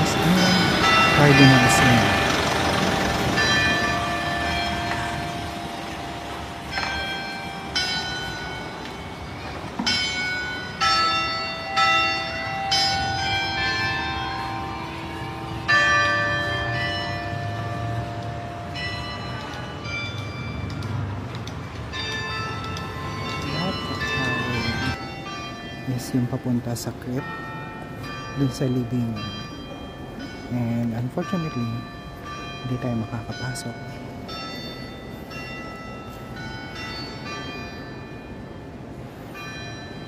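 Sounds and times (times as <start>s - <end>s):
church bells ringing: 0.0s - 40.0s.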